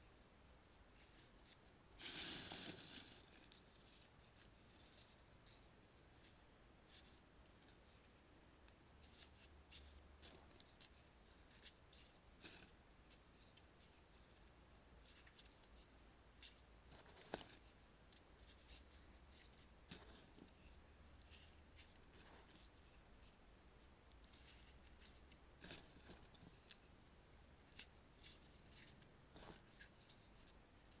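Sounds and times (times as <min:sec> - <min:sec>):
low steady hum: 0:00.0 - 0:31.0
paper rustling and folding: 0:00.9 - 0:08.3, 0:09.0 - 0:23.4, 0:24.2 - 0:27.0, 0:27.7 - 0:31.0.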